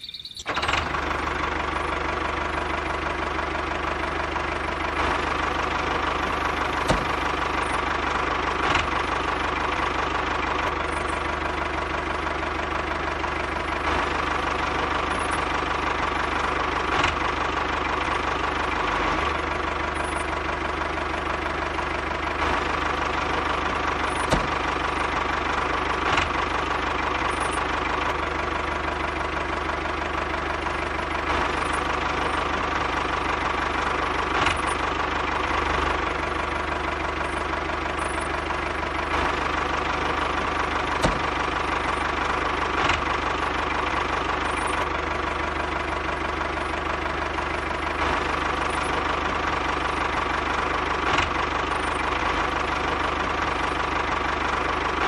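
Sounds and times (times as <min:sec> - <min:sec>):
engine-like chugging: 0:00.0 - 0:55.0.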